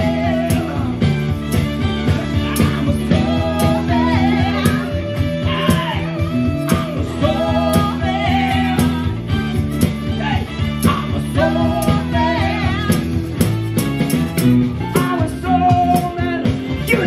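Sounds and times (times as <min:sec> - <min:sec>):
person singing: 0:00.0 - 0:09.4, 0:10.1 - 0:13.2, 0:14.8 - 0:17.0
bass guitar: 0:00.0 - 0:17.0
drums beat: 0:00.0 - 0:17.0
electric guitar: 0:00.0 - 0:17.0.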